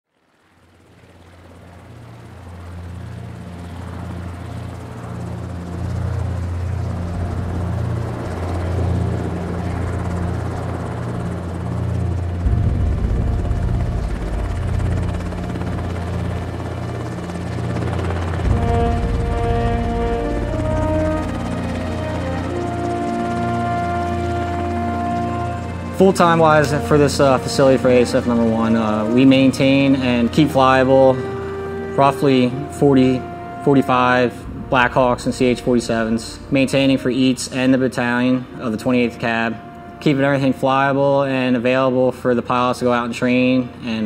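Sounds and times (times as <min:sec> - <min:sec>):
helicopter rotor drone: 0:00.1 - 0:44.0
musical notes: 0:02.0 - 0:43.9.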